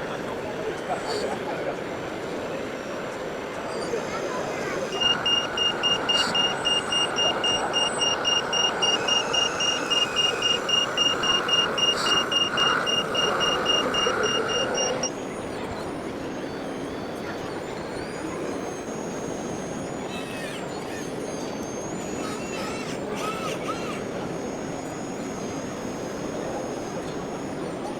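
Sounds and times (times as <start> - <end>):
steady motor hum: 0.0 - 27.9
reversing warning beeper: 3.7 - 27.9.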